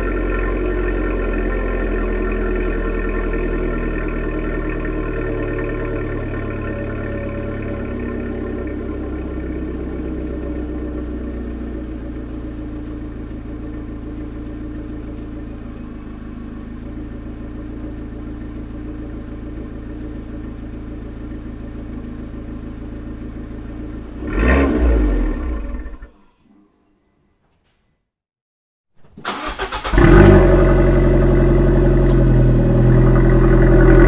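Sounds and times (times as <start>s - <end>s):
car engine idling: 0.0s - 24.6s, 29.2s - 34.0s.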